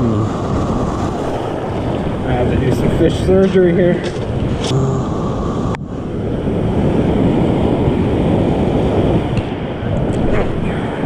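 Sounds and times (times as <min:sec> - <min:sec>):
ocean surf breaking: 0:00.0 - 0:11.0
wind noise on microphone: 0:00.0 - 0:11.0.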